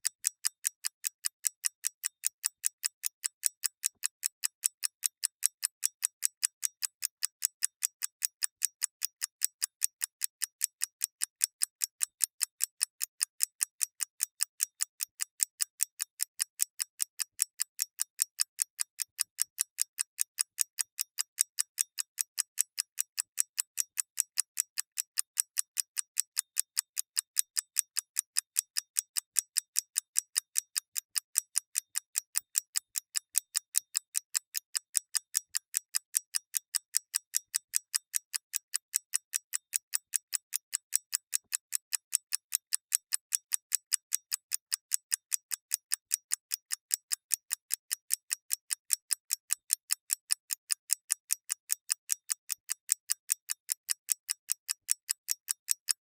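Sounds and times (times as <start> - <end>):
mechanical clock ticking: 0.0 - 56.0.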